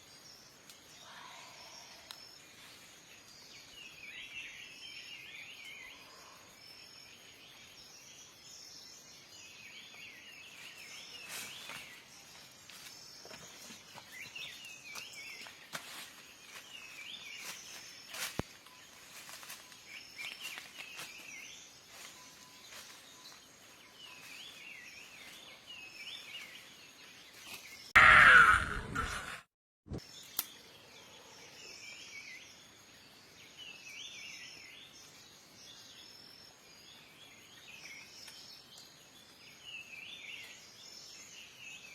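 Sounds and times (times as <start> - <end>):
small birds chirping: 0.0 - 29.4, 30.0 - 41.9
outdoor ambience: 0.0 - 41.9.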